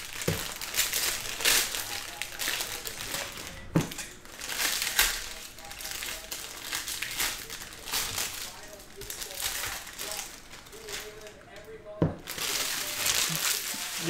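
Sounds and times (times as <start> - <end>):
foil wrappers crinkling and tearing: 0.0 - 14.0.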